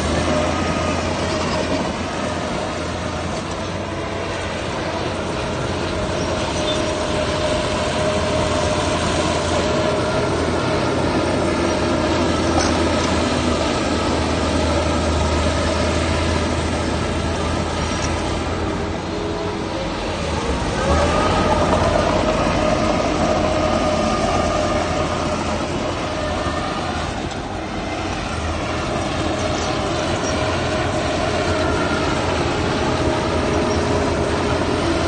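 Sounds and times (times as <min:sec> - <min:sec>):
diesel engine rumbling: 0:00.0 - 0:35.0.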